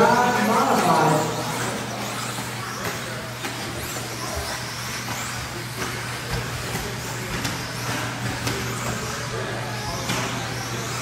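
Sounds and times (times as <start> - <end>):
electric toy car motors whining: 0.0 - 11.0
tyre and chassis noise: 0.0 - 11.0.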